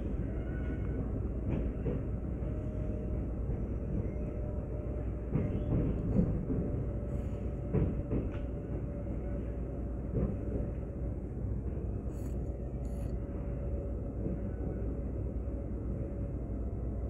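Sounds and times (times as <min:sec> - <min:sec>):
low rumble of train: 0:00.0 - 0:17.0.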